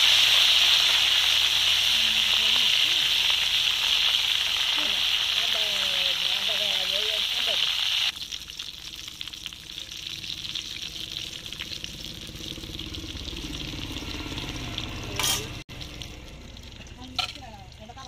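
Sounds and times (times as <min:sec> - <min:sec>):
frying oil sizzling and crackling: 0:00.0 - 0:18.0.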